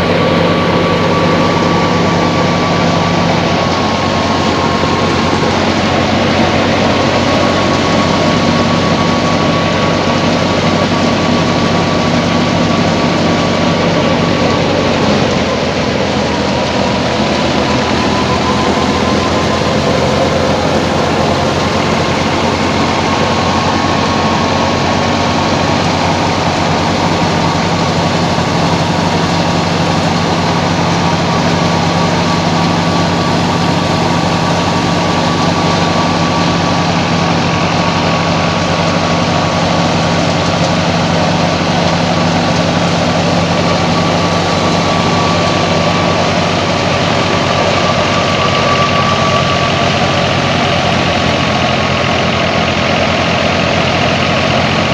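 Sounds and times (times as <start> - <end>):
high whine: 0.0 - 54.9
thresher machinery clatter: 0.0 - 54.9
tractor diesel engine running: 0.0 - 54.9.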